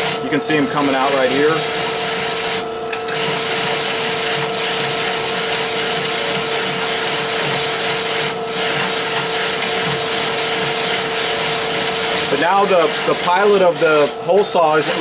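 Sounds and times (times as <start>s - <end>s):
drill press motor hum: 0.0s - 15.0s
hole saw grinding metal: 0.0s - 15.0s.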